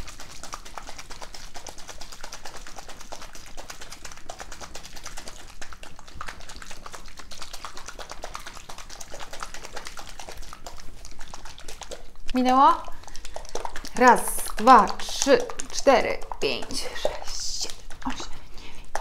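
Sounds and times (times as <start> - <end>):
plastic cup shaken with rattle: 0.0 - 19.0.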